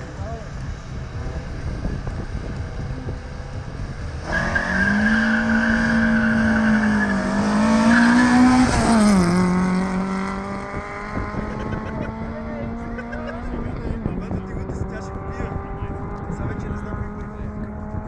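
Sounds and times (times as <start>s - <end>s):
car engines revving and launching: 0.0s - 18.0s.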